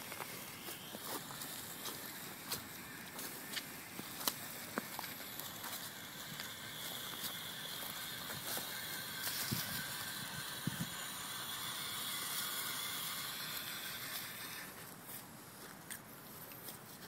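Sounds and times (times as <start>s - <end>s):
electric motor and gear whine: 0.0s - 15.3s.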